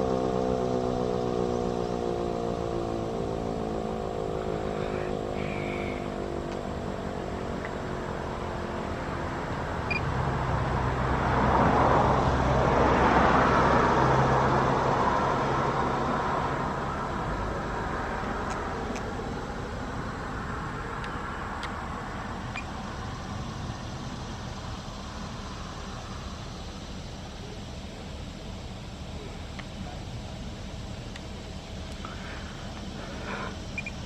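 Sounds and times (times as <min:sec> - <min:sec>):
vehicle passing: 0:00.0 - 0:34.0.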